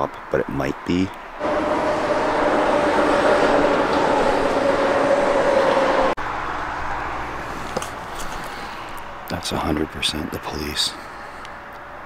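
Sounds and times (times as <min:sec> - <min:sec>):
traffic noise: 0:00.0 - 0:12.0
passing vehicle rush with whine: 0:00.8 - 0:12.0.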